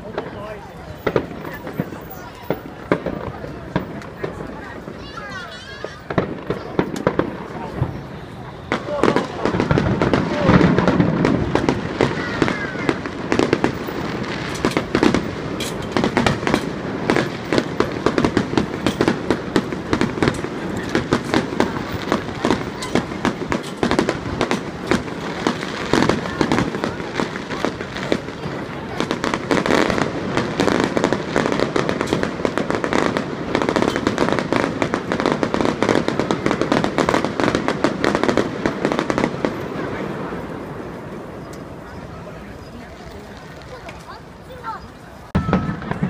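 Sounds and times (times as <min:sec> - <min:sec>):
aerial fireworks bursting: 0:00.0 - 0:46.0.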